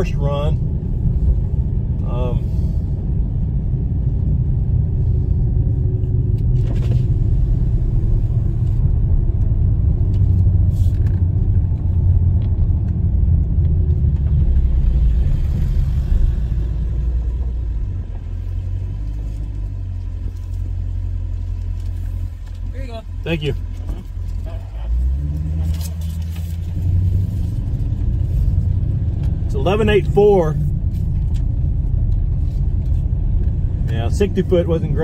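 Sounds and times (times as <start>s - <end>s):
car engine rumbling: 0.0s - 35.0s.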